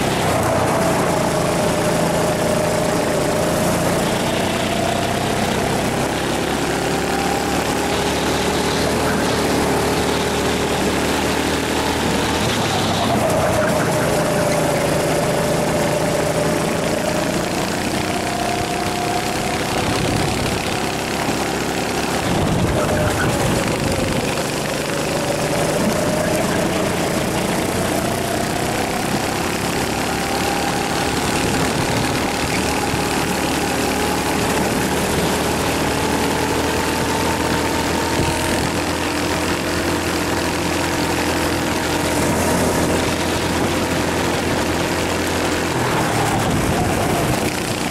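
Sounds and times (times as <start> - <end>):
kart engine racing: 0.0 - 47.9.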